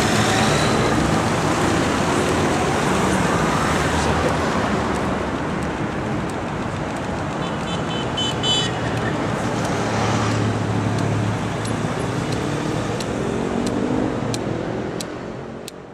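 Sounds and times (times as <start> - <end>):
cars and vans passing: 0.0 - 15.9.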